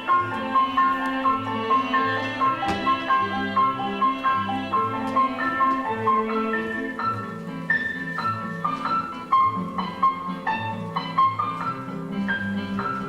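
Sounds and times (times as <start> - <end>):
keyboard melody: 0.0 - 13.0.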